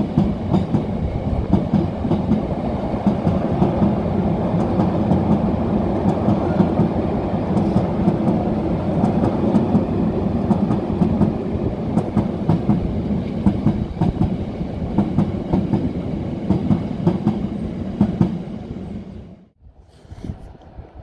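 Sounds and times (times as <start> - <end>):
freight train rumbling past: 0.0 - 19.6.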